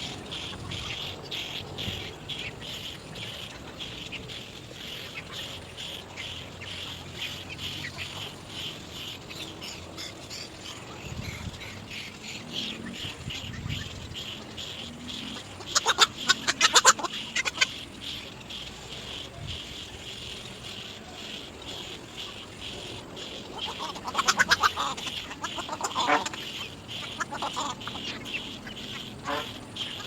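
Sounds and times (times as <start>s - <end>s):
egrets chattering calls: 0.0s - 30.0s.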